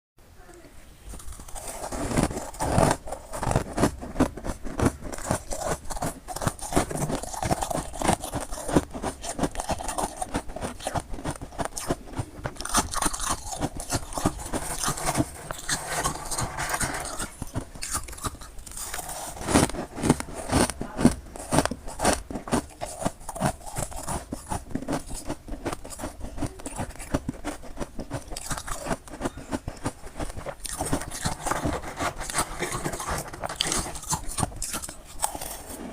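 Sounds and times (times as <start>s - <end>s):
person chewing crunchy frost: 1.1s - 35.9s.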